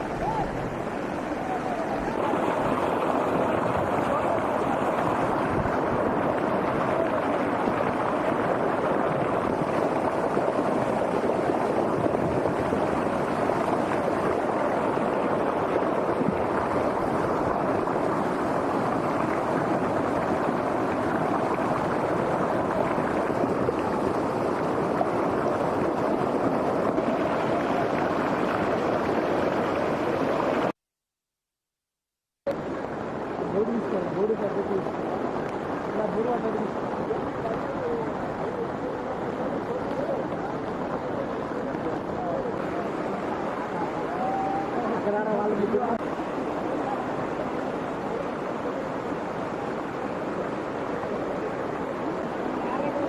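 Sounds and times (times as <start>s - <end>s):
fast-flowing water rushing: 0.0s - 30.8s, 32.5s - 53.0s.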